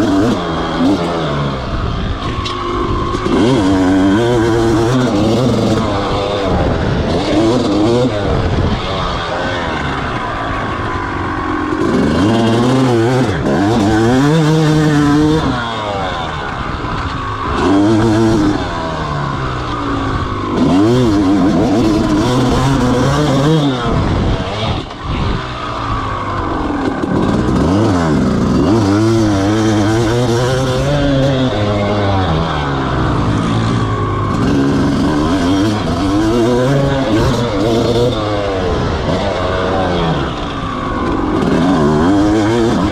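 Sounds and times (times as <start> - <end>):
two-stroke motocross bike revving: 0.0 - 42.9.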